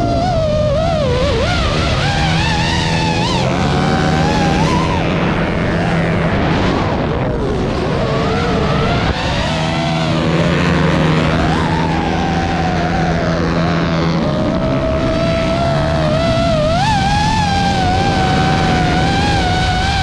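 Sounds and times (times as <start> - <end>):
drone propeller motors whining: 0.0 - 20.0
racing motorcycle engines: 0.0 - 20.0.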